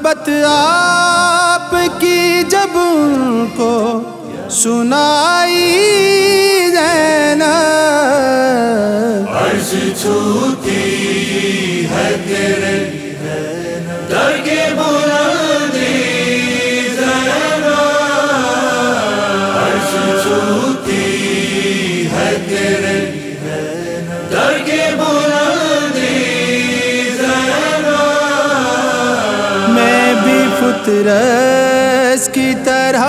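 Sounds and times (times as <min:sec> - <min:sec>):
chorus of voices chanting: 0:00.0 - 0:07.6, 0:08.6 - 0:33.0.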